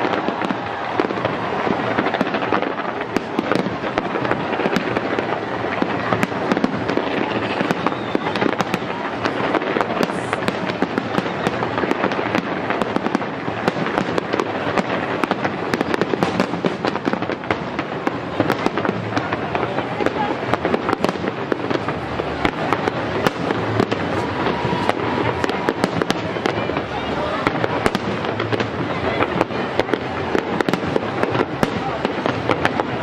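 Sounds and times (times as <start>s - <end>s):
fireworks crackling and banging: 0.0s - 33.0s.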